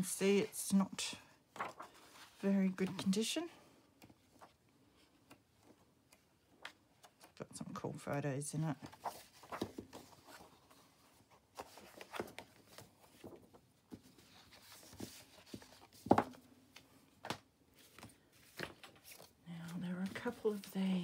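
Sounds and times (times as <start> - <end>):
book pages turning: 1.5 - 3.2, 3.9 - 7.4, 8.7 - 21.0.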